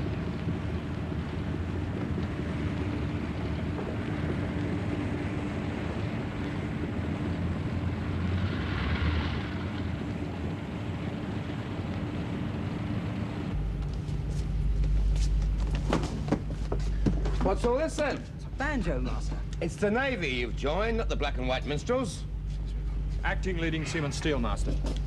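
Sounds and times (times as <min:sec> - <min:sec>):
mechanical rumble with low hum: 0:00.0 - 0:25.0.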